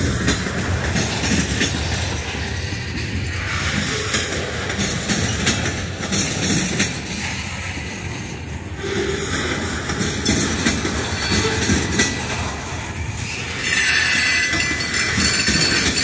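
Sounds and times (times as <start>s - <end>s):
wheels clicking over rail joints: 0.0s - 16.0s.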